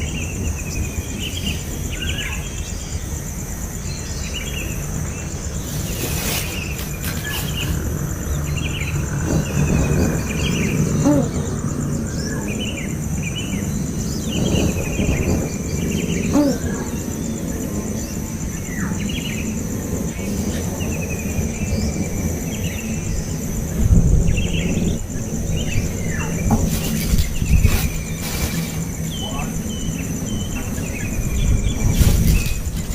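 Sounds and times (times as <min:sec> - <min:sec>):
high insect trill: 0:00.0 - 0:32.9.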